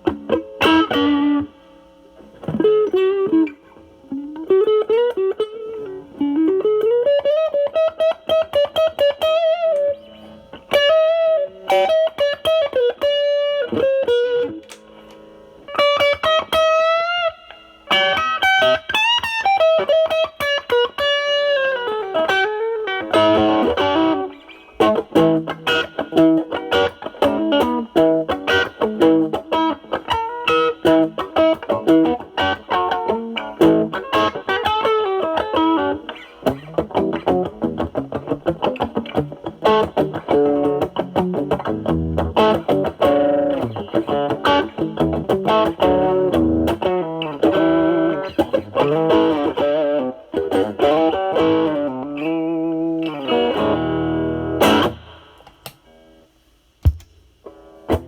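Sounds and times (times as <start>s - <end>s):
electric guitar chord strumming: 0.0s - 1.6s, 2.2s - 55.4s
overdriven electric guitar blues lead: 0.0s - 56.1s.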